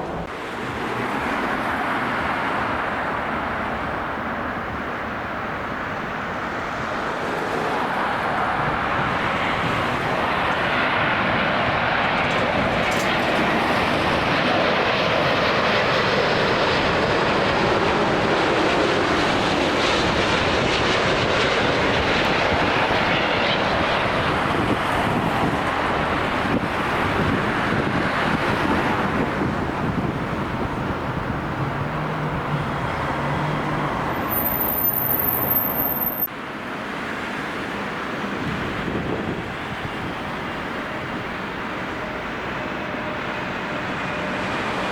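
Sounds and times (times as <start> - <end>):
jet airliner passing: 0.0 - 44.9.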